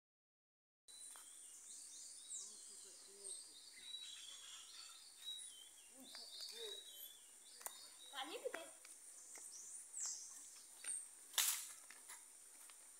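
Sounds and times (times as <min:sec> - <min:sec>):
birds chirping: 0:00.9 - 0:12.9.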